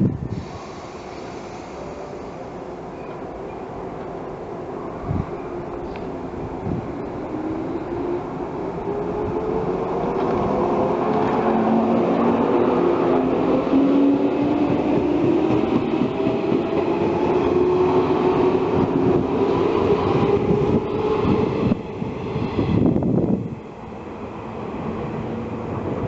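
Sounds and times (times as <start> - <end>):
train motors humming: 5.1 - 26.0.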